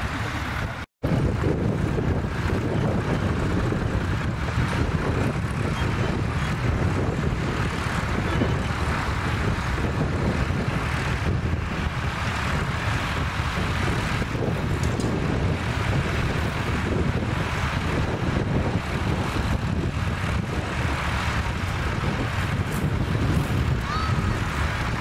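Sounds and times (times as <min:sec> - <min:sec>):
tractor diesel engine running: 0:00.0 - 0:25.0
wind buffeting microphone: 0:00.0 - 0:25.0.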